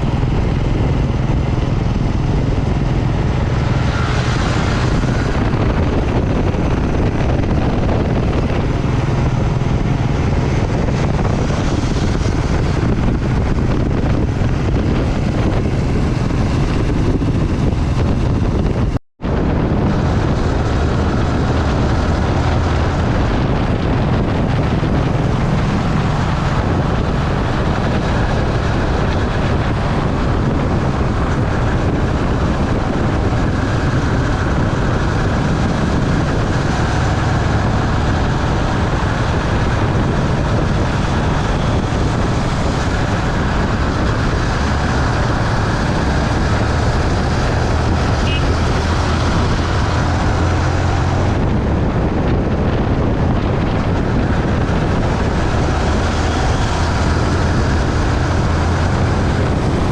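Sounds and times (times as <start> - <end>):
motorbike engine at speed: 0.0 - 59.9
wind rushing: 0.0 - 59.9.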